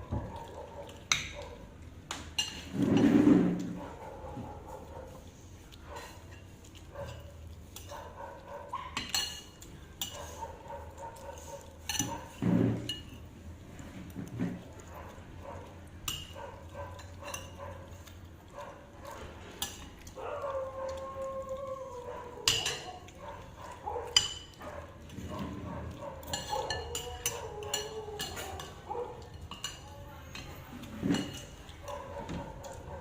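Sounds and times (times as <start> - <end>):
dishes and utensils clinking: 2.2 - 4.0, 5.9 - 20.2, 22.3 - 33.0.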